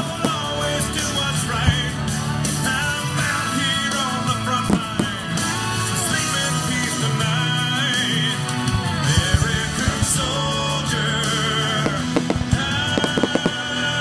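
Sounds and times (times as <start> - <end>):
rock song with singing and guitar: 0.0 - 14.0.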